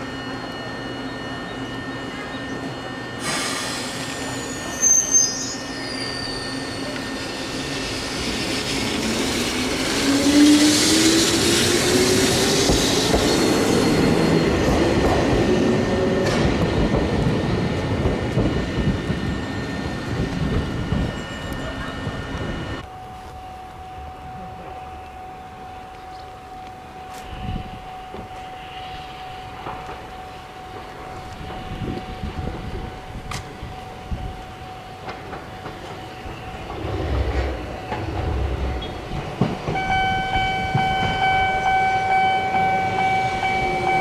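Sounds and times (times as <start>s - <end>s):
wheels squealing on rails: 0.0s - 22.8s, 24.3s - 44.0s
train wheels running: 0.0s - 23.8s, 25.8s - 44.0s
electric train motors whining: 0.0s - 44.0s.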